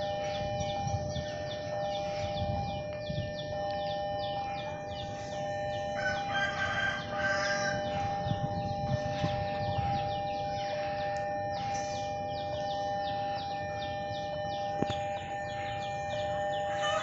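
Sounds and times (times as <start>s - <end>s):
two-tone alarm drone: 0.0s - 17.0s.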